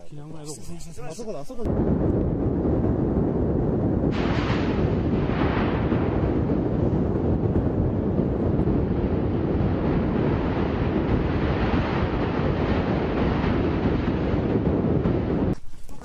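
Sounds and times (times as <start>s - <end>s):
wind buffeting microphone: 1.6s - 15.9s.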